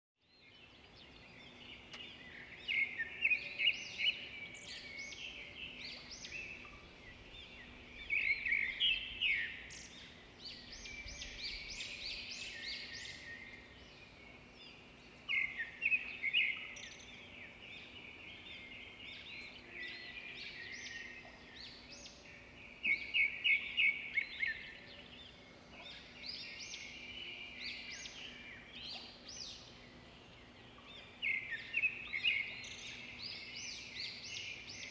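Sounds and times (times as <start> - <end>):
birds chirping: 0.3 - 34.9.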